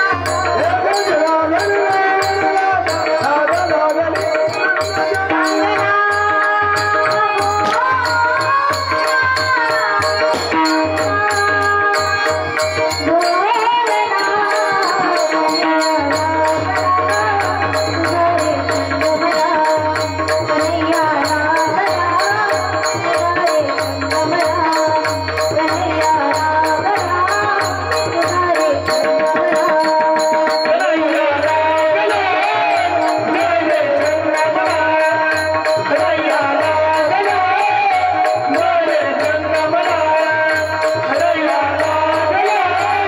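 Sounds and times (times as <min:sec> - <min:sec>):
hand drum rhythm: 0:00.0 - 0:43.0
person singing a melody: 0:00.0 - 0:43.0.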